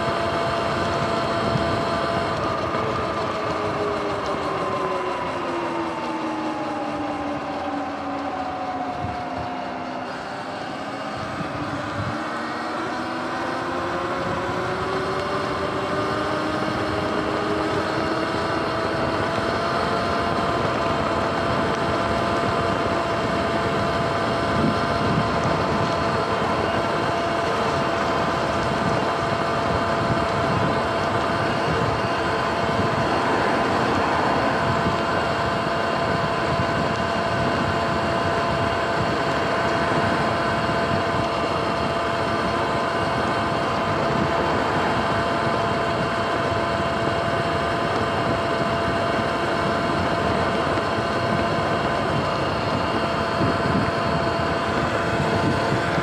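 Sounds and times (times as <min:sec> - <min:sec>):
electric motorbike motor whining: 0:00.0 - 0:56.0
wind and tyre noise on wet road: 0:00.0 - 0:56.0.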